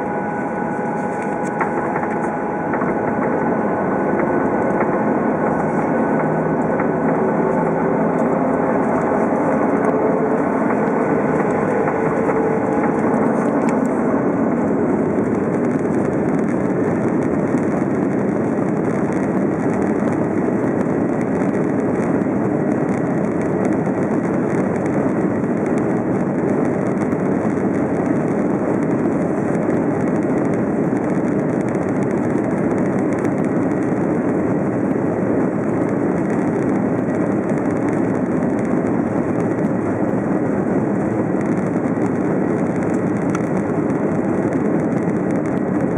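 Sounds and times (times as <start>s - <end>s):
faint whine: 0.0s - 45.9s
jet cabin engine noise: 0.0s - 45.9s.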